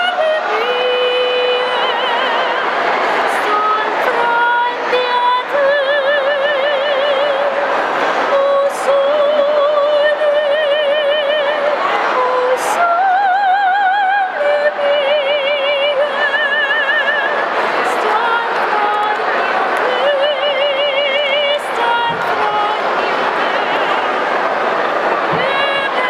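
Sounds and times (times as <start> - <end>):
woman singing operatically: 0.0 - 7.7, 8.3 - 23.2, 25.3 - 26.0.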